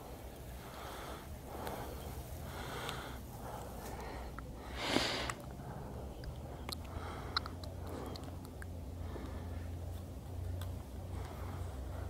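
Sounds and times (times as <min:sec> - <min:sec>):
person breathing heavily: 0:00.0 - 0:09.9, 0:11.0 - 0:12.0.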